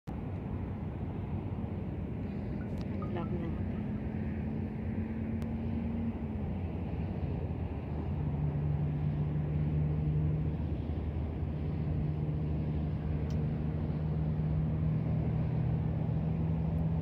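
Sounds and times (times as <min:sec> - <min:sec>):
low engine drone: 0:00.1 - 0:17.0.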